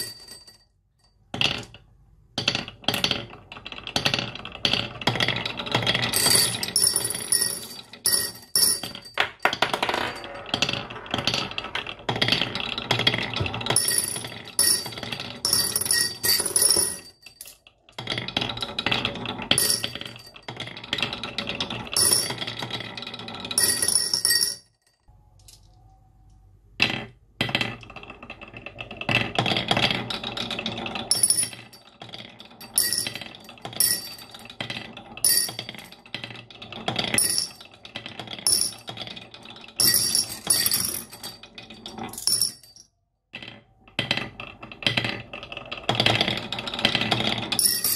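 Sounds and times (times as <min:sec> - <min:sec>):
marbles clattering down a marble run: 0:01.2 - 0:24.6, 0:26.8 - 0:47.9.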